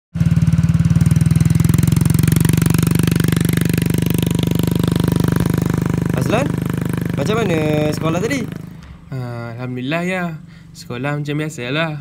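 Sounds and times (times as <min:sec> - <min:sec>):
small motorcycle engine idling: 0:00.2 - 0:12.0.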